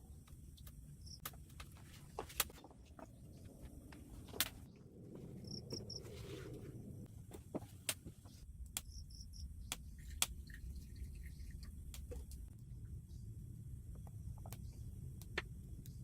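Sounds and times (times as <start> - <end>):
low steady rumble: 3.0 - 16.0.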